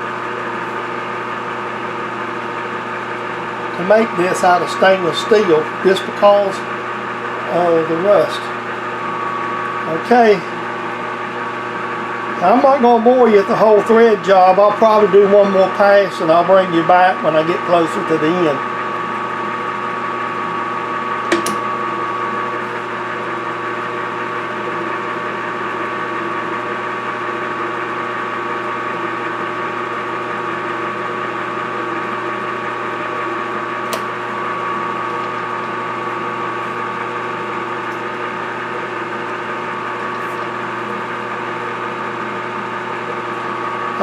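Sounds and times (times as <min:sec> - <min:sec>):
metal lathe motor whine: 0:00.0 - 0:44.0.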